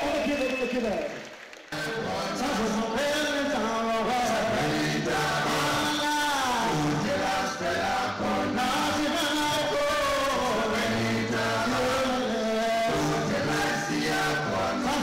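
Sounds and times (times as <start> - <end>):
men singing in a group chant: 1.8 - 15.0.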